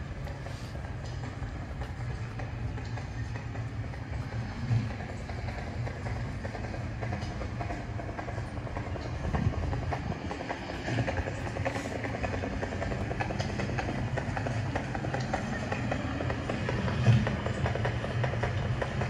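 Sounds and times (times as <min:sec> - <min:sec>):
low city rumble: 0:00.0 - 0:19.0.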